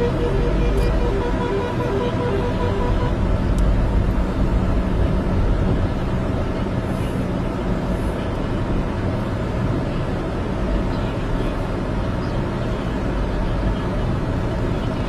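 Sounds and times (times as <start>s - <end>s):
road vehicle engines rumbling: 0.0s - 15.0s.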